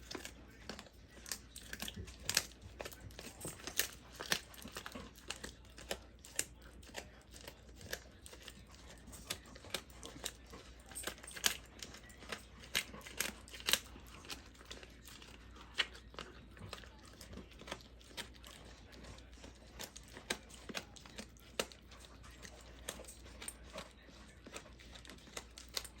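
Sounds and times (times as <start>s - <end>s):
dog chewing crunchy chew: 0.0s - 26.0s.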